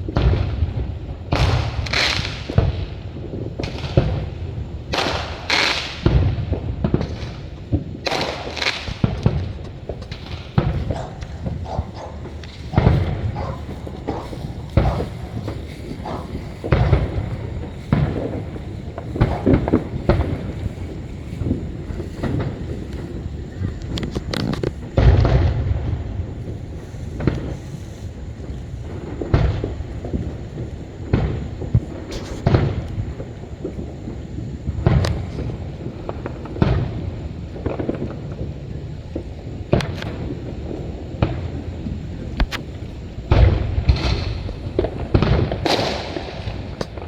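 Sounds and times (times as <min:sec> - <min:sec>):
fireworks booming: 0:00.0 - 0:47.0
fireworks crackling pops: 0:00.0 - 0:47.0.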